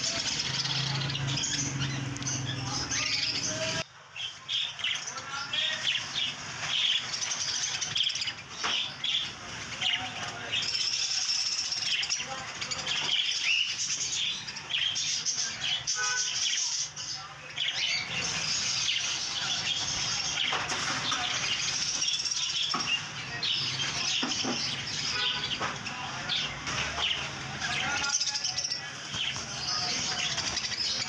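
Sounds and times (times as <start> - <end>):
budgerigars chirping: 5.6 - 31.0.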